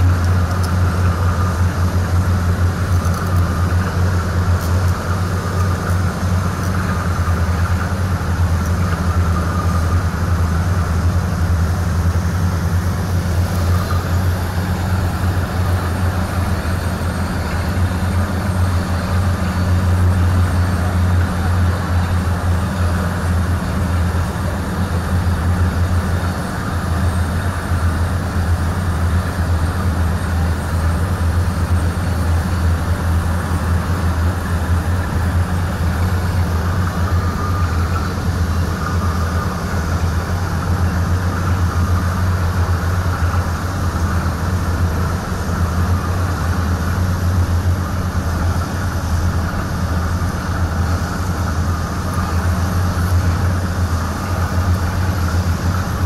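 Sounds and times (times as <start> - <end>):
drilling rig engines droning: 0.0 - 56.0.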